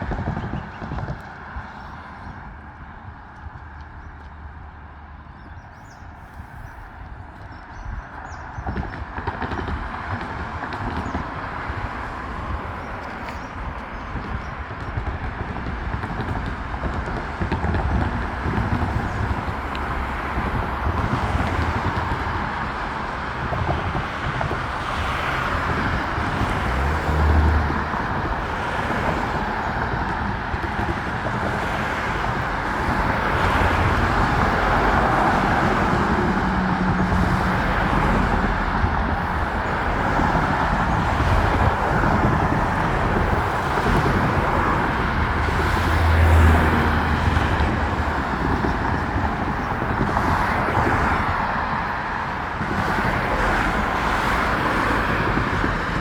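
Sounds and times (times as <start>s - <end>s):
traffic tyres and engines hissing: 0.0s - 56.0s.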